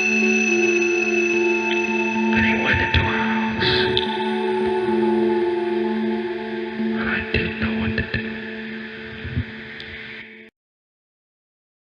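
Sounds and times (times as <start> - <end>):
ambient synthesizer drone: 0.0 - 10.5.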